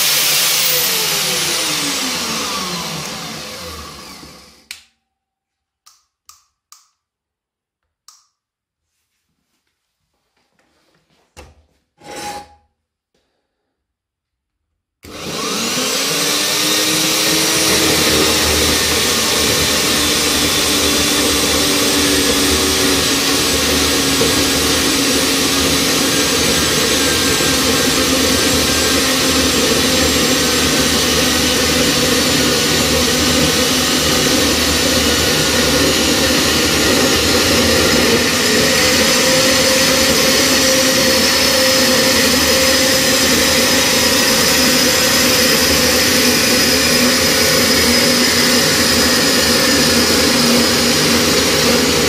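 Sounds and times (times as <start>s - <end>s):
band saw cutting metal tube: 0.0s - 4.7s, 12.0s - 12.7s, 15.0s - 52.0s.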